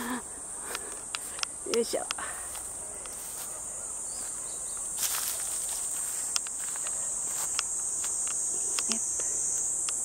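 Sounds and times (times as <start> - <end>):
insects buzzing: 0.0 - 10.0
footsteps in dry grass: 0.6 - 8.9.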